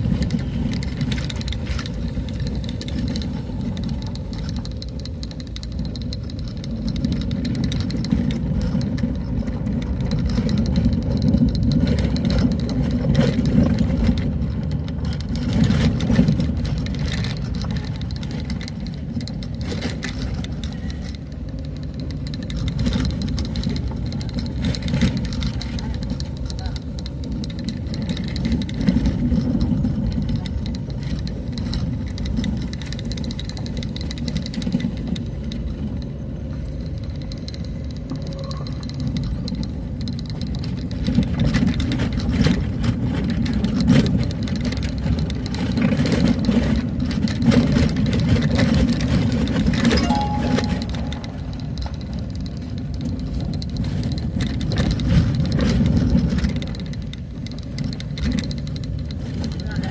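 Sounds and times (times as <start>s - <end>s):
small clicks and rattles: 0.0s - 59.9s
vehicle engine and road rumble: 0.0s - 59.9s.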